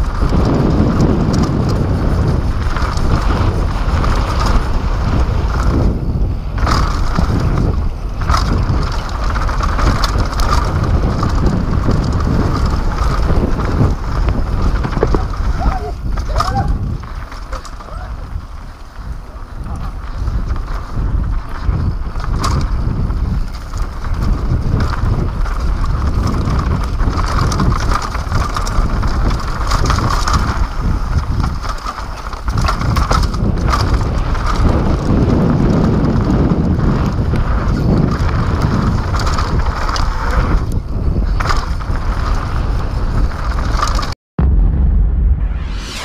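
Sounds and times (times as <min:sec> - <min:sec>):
bike knocks and rattles: 0:00.0 - 0:44.2
bike tyres rolling over dirt: 0:00.0 - 0:44.2
wind rushing over microphone: 0:00.0 - 0:46.0.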